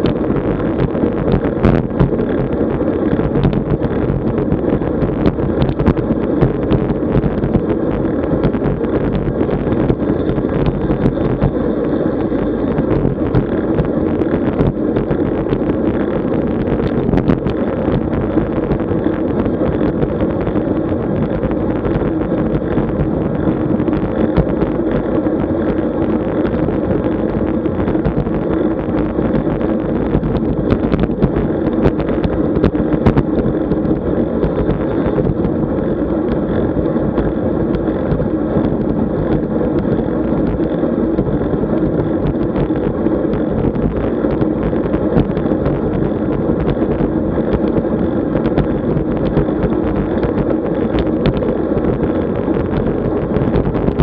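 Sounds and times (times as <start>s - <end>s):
constant low hum: 0.0s - 54.0s
road noise: 0.0s - 54.0s
wind on microphone: 0.0s - 54.0s.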